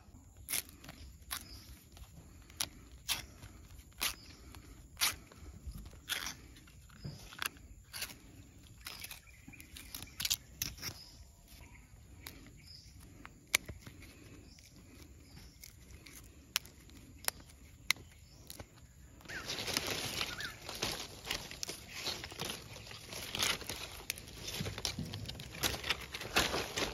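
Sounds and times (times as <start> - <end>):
fronds crinkling when handled: 0.0 - 26.9
leaves tearing and rustling: 0.0 - 26.9.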